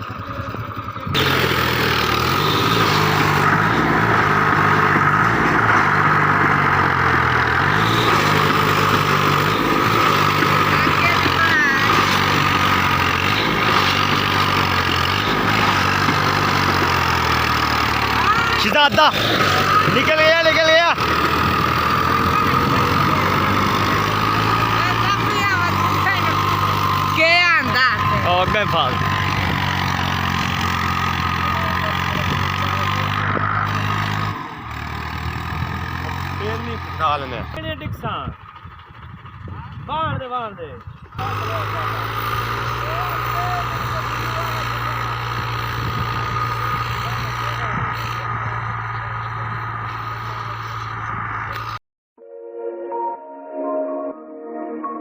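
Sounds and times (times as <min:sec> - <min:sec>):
tractor diesel engine running: 0:00.0 - 0:51.8.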